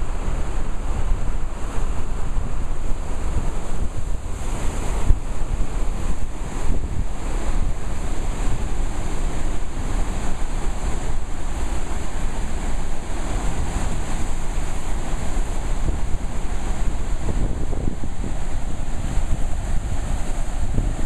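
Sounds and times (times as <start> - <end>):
whitewater rushing: 0.0 - 21.0
wind rumble on microphone: 0.0 - 21.0.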